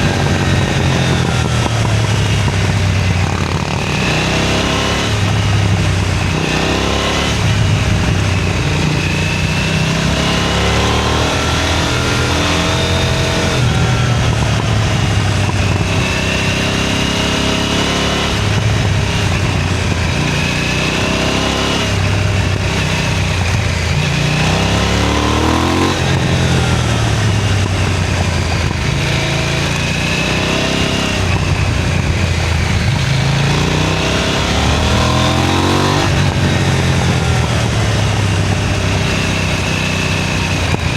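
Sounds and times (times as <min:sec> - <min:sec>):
motorcycle engine revving: 0:00.0 - 0:40.9
wind noise: 0:00.0 - 0:40.9.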